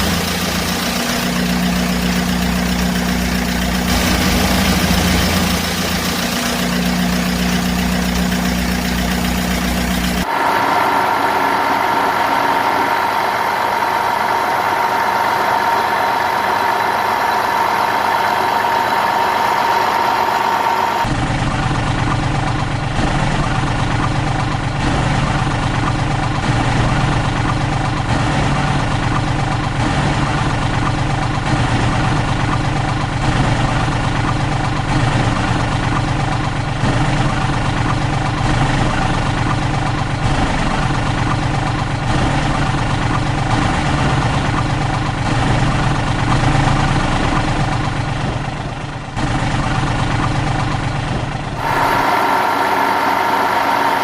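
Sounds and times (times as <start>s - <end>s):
heavy vehicle engine idling: 0.0s - 54.0s.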